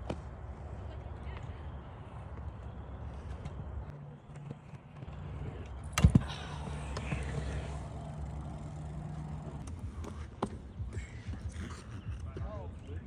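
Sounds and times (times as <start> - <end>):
skateboard wheels rolling on pavement: 0.0 - 13.0.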